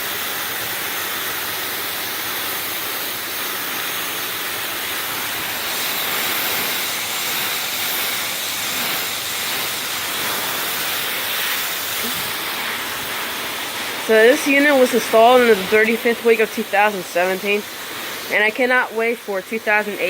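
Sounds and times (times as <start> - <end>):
water spraying on metal coils: 0.0 - 20.0.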